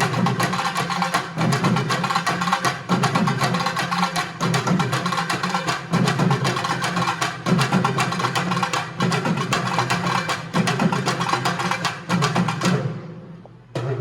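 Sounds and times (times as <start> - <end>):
hourglass drum rapid stick strokes: 0.0 - 14.0.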